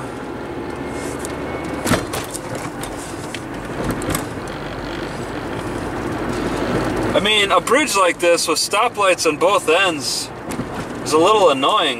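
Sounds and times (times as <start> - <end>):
car engine rumble in cabin: 0.0 - 11.9.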